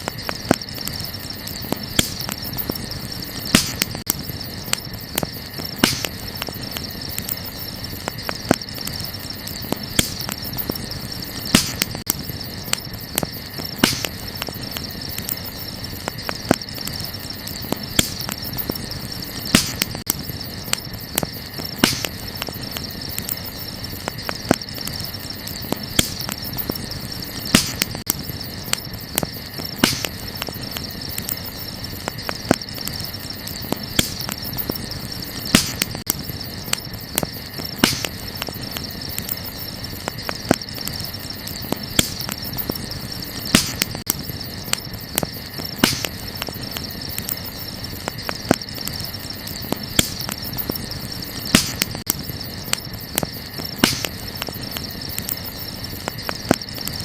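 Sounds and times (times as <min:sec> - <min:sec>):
crickets chirring: 0:00.0 - 0:57.0
wood fire crackling: 0:00.0 - 0:57.0.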